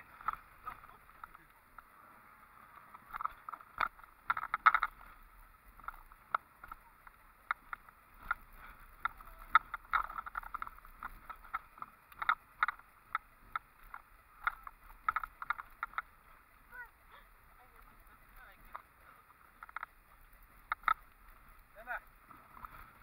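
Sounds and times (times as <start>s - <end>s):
faint road noise: 0.0s - 23.0s.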